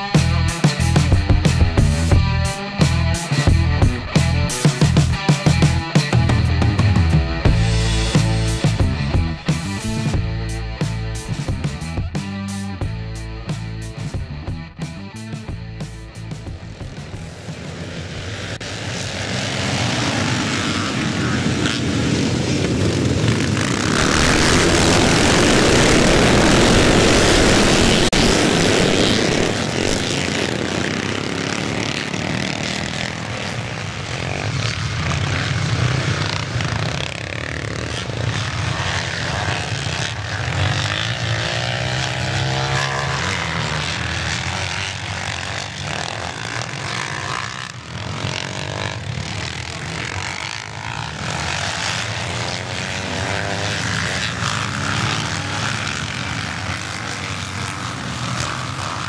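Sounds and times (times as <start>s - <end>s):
motocross bikes accelerating: 0.0s - 59.0s
motorbike revving: 0.0s - 59.0s.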